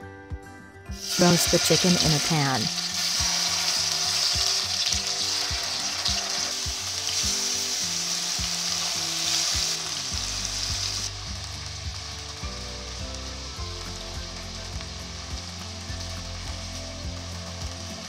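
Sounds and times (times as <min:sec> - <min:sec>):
soft background music: 0:00.0 - 0:18.0
chicken wings sizzling in oil: 0:01.0 - 0:18.0.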